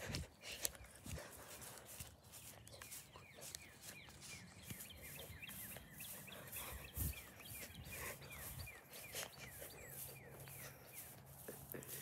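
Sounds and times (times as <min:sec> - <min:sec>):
footsteps in dry grass: 0:00.0 - 0:12.0
small songbirds chirping: 0:00.0 - 0:12.0.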